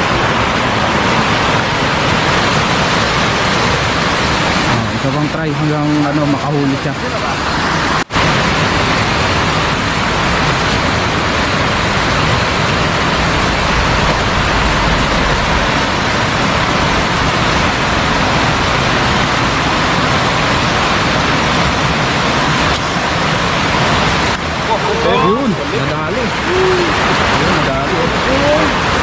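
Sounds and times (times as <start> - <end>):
river rushing over weir: 0.0 - 29.0.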